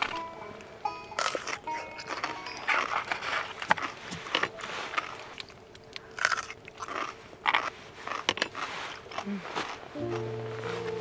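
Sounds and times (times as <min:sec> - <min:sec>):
crunching and chewing: 0:01.0 - 0:11.0.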